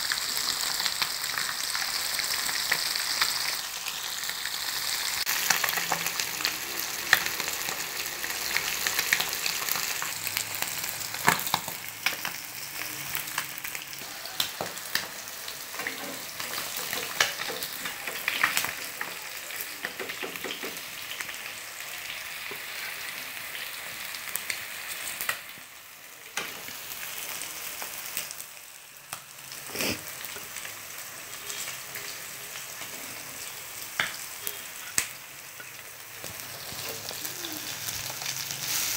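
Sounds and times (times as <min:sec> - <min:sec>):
fish sizzling in hot oil: 0:00.0 - 0:38.9.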